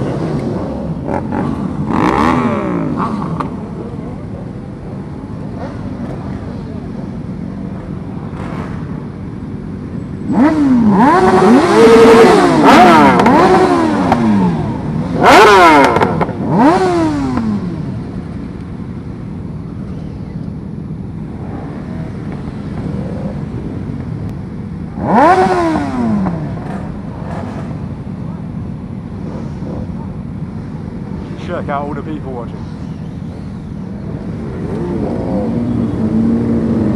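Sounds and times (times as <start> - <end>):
engines running: 0.0 - 36.9
motorcycle engines revving: 0.0 - 36.9.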